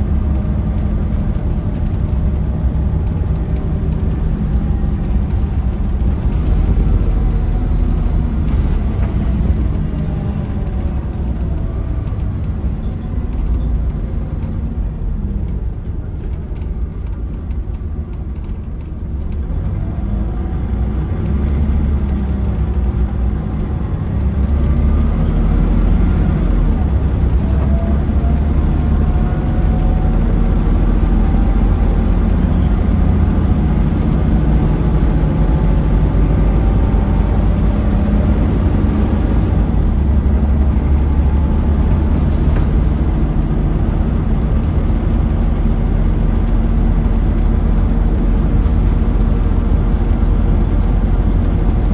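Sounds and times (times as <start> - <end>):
bus diesel engine: 0.0 - 51.9.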